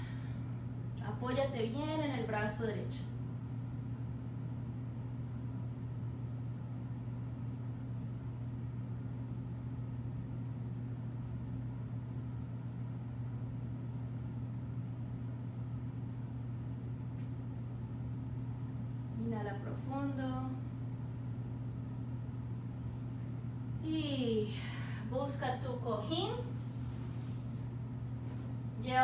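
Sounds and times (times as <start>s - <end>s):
low-pitched background hum: 0.0s - 29.0s.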